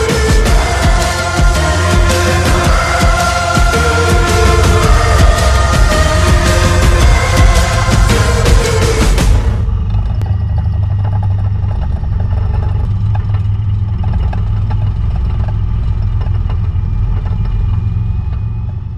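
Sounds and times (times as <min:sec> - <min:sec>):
tank engine rumble: 0:00.0 - 0:18.9
tracks rattling and clanking: 0:00.0 - 0:18.9.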